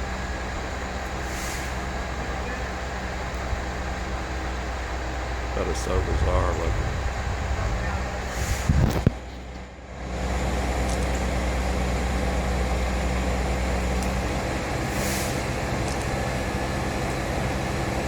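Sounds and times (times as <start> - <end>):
heavy engine running: 0.0 - 18.0.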